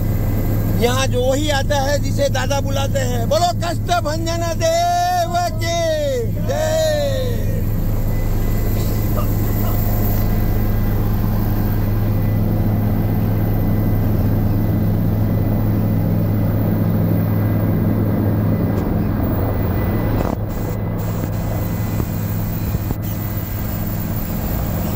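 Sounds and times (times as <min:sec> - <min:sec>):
helicopter engine and rotor drone: 0:00.0 - 0:24.9.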